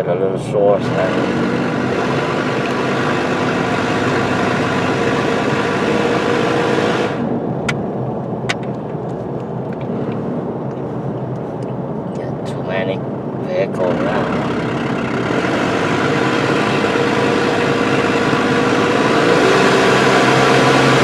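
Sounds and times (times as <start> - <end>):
engine hum: 0.0 - 21.0
road and wind noise: 0.0 - 21.0.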